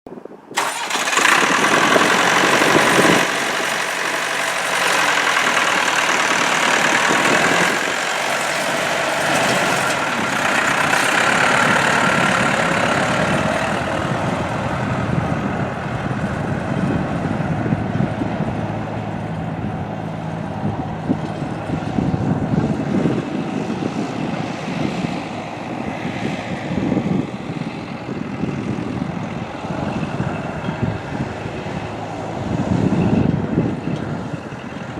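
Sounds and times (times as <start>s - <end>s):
tractor diesel engine running: 0.6s - 34.9s.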